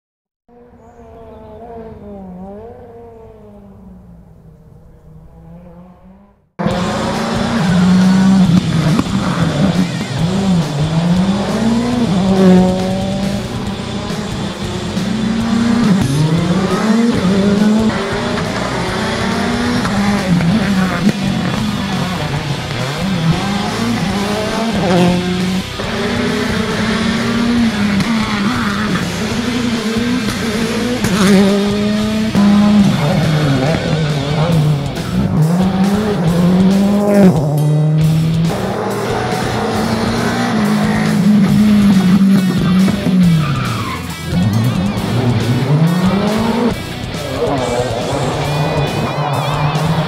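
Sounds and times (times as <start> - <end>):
rally car engines revving: 0.5 - 50.0.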